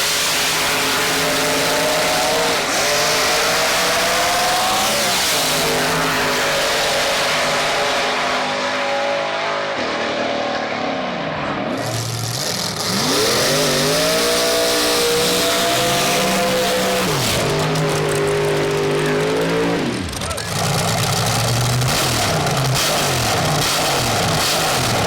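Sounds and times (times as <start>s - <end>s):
racing car engine at full throttle: 0.0s - 25.0s.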